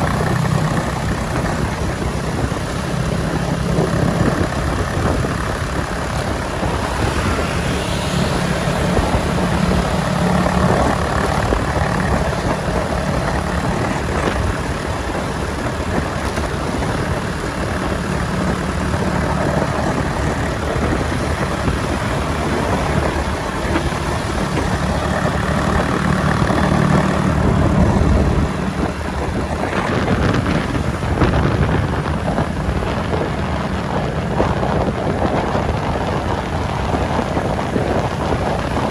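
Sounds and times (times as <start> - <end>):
motorbike engine running: 0.0 - 38.9
road noise: 0.0 - 38.9.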